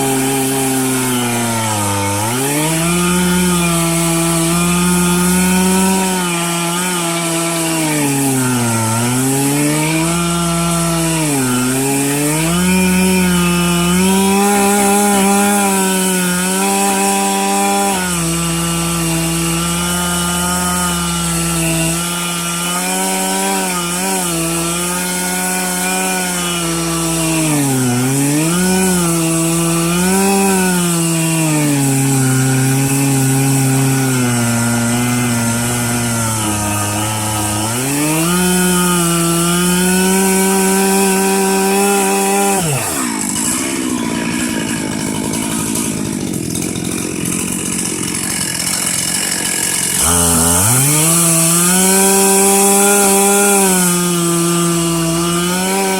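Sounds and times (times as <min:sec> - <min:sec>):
chainsaw cutting through log: 0:00.0 - 0:55.9.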